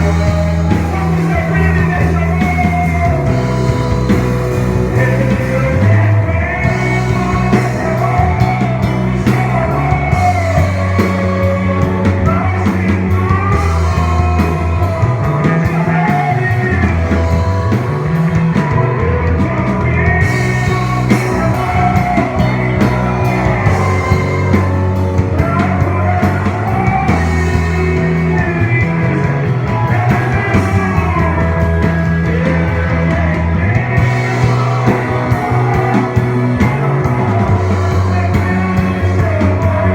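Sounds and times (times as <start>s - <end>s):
person singing: 0.0s - 39.9s
worship band playing: 0.0s - 39.9s.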